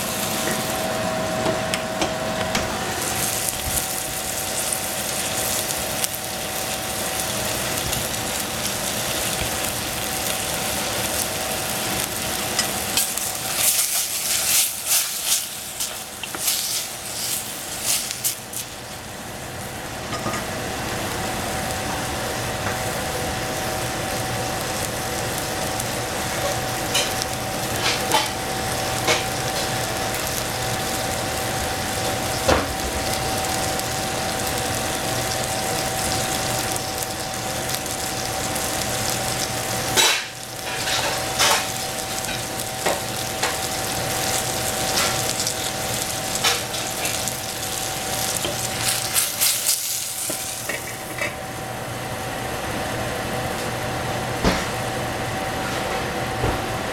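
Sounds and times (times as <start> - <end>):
food sizzling in a pan: 0.0 - 1.0, 2.7 - 55.6.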